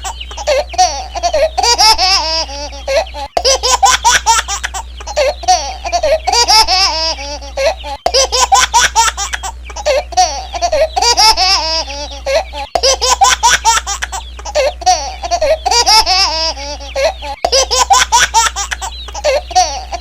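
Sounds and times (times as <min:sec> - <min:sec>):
high-pitched laughter: 0:00.0 - 0:20.0
steady low hum: 0:00.0 - 0:20.0.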